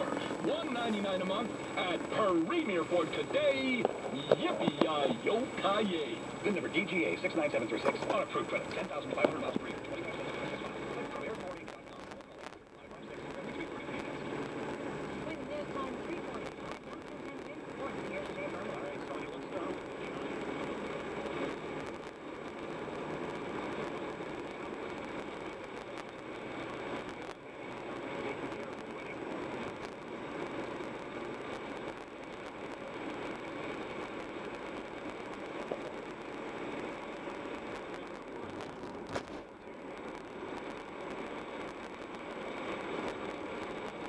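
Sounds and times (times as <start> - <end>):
car engine hum: 0.0 - 44.0
road and tyre noise: 0.0 - 44.0.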